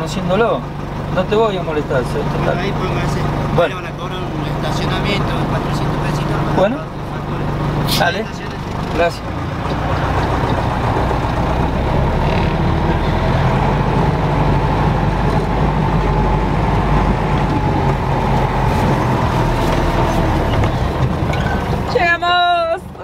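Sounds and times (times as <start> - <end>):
motorhome engine rumbling: 0.0 - 23.0.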